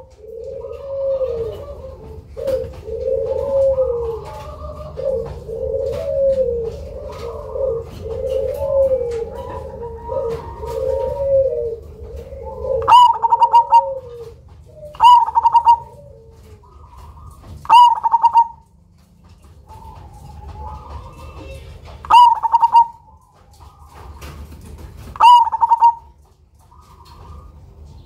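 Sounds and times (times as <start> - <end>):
dove trilled cooing: 0.0 - 28.0.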